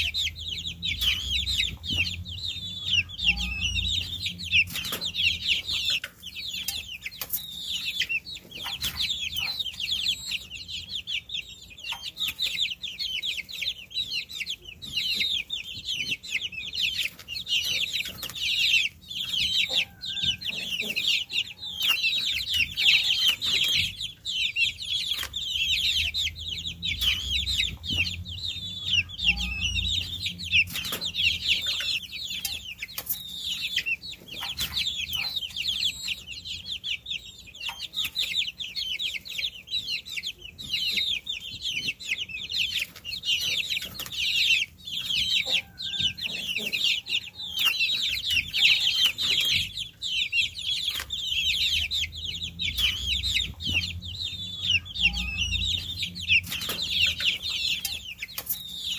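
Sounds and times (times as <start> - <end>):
baby chicks peeping: 0.0 - 58.9.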